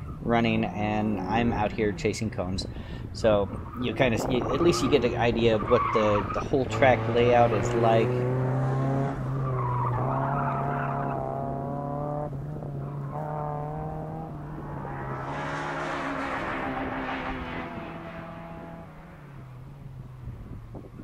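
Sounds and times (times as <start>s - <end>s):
car engine revving: 3.5s - 21.0s.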